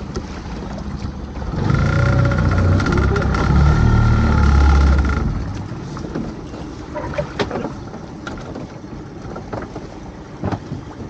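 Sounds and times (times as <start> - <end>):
water lapping around boat: 0.0 - 11.0
wind: 0.0 - 11.0.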